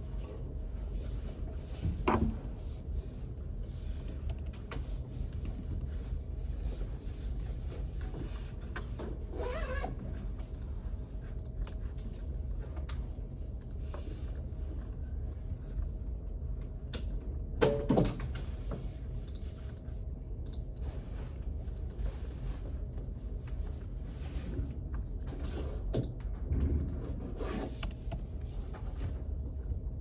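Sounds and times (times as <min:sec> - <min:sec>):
ventilation hum: 0:00.0 - 0:30.0.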